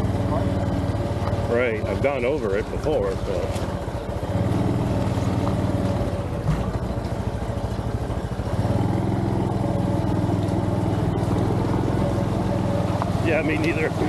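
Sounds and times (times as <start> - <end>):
motorcycle engine running slowly: 0.0 - 14.0.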